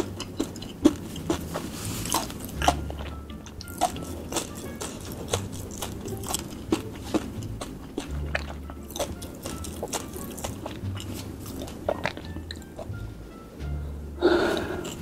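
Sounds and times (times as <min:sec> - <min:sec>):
chip chewing: 0:00.0 - 0:13.0, 0:14.4 - 0:15.0
background music bass line: 0:00.0 - 0:15.0.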